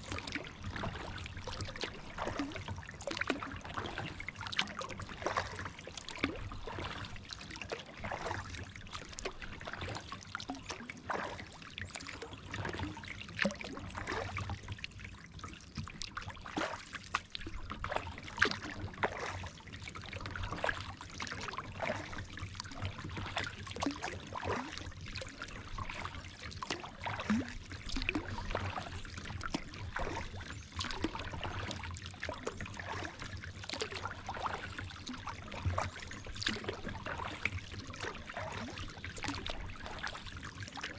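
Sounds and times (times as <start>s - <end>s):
paddle splashing in water: 0.0s - 40.9s.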